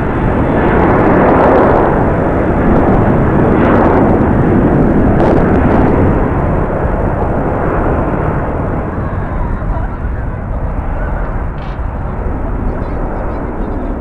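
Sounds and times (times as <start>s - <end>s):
jet airliner noise: 0.0s - 14.0s
wind buffeting microphone: 0.0s - 14.0s.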